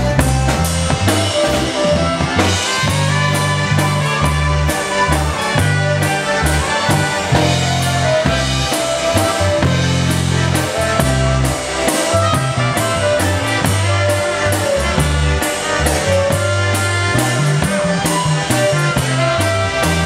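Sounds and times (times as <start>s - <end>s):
polka band playing a waltz: 0.0s - 20.0s
steady drum beat: 0.0s - 20.0s
sustained bass line: 0.0s - 20.0s
trumpet and clarinet melody: 0.0s - 20.0s.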